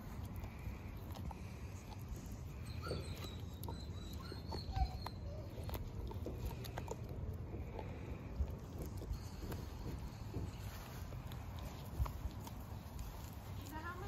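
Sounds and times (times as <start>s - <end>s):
puppies gnawing bones: 0.0s - 14.0s.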